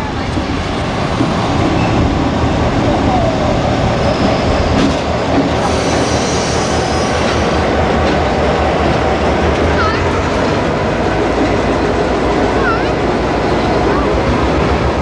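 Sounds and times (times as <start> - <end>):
diesel locomotive engine: 0.0 - 15.0
train wheels on rails: 0.0 - 15.0.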